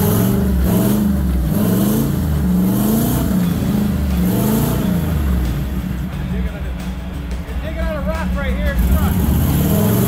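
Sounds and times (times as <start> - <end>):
off-road vehicle engine revving: 0.0 - 7.4, 8.0 - 10.0.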